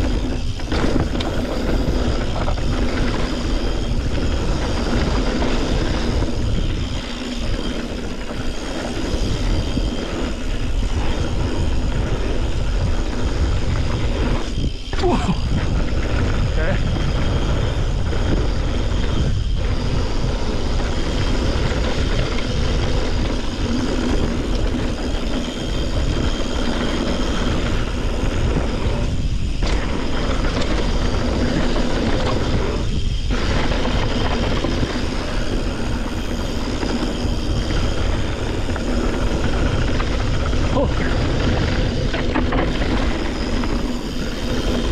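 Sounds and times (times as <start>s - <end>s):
bike tyres on rough dirt trail: 0.0s - 44.9s
wind buffeting microphone: 0.0s - 44.9s.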